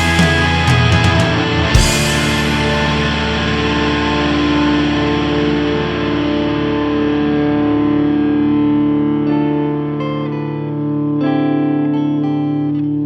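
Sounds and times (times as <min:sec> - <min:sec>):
distorted electric guitar chord: 0:00.0 - 0:13.0.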